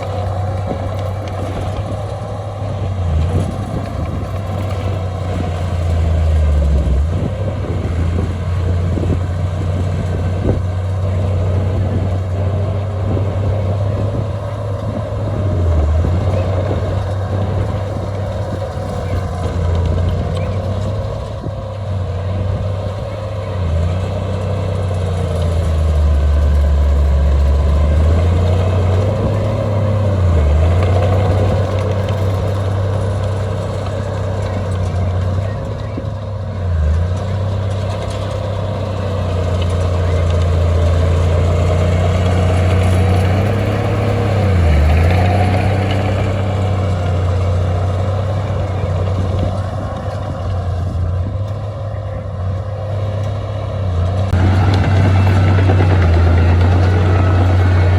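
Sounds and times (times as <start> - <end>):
diesel machinery engine rumble: 0.0 - 57.9.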